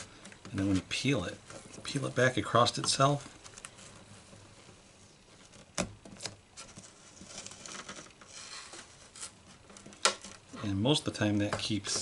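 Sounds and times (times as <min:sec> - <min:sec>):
tape scratching and rustling: 0:00.0 - 0:10.6.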